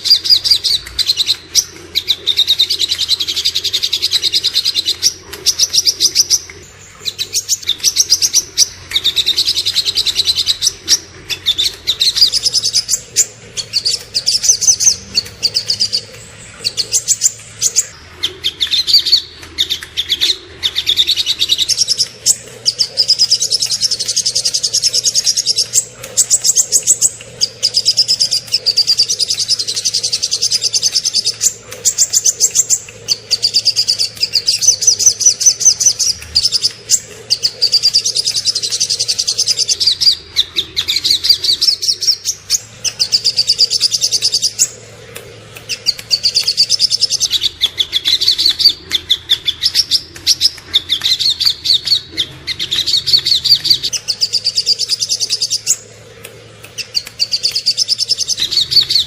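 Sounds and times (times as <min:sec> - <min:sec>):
songbirds singing fast trills: 0:00.0 - 0:59.0.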